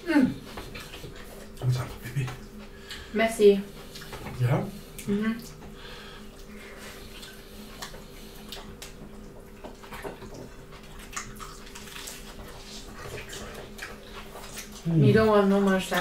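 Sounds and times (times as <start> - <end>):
people chewing crunchy food: 0.0 - 16.0
steady low hum: 0.0 - 16.0.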